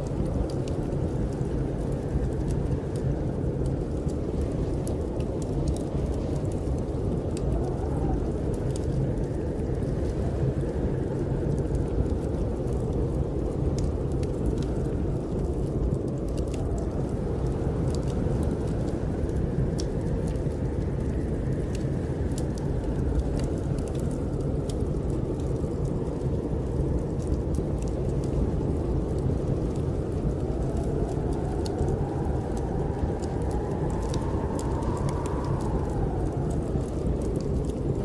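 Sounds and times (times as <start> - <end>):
whistling wind howl: 0.0 - 38.0
wind blowing with deep rumble: 0.0 - 38.0
wood fire crackling: 0.0 - 38.0.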